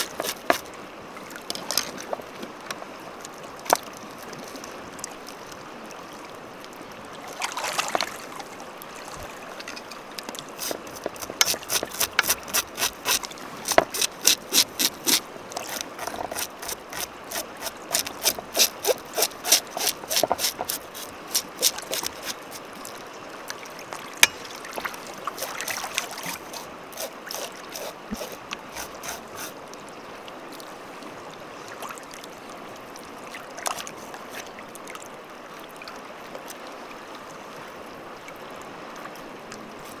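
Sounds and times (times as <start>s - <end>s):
mountain stream flowing: 0.0s - 40.0s.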